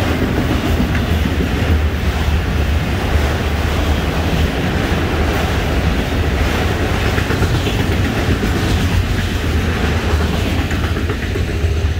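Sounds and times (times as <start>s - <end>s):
clickety-clack over rail joints: 0.0s - 11.9s
steel wheels rumbling on rail: 0.0s - 11.9s.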